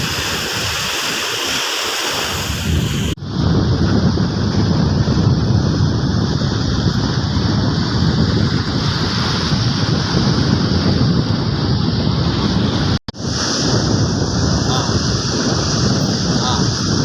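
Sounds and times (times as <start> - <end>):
surf washing on beach: 0.0 - 17.0
wind buffeting microphone: 0.0 - 17.0.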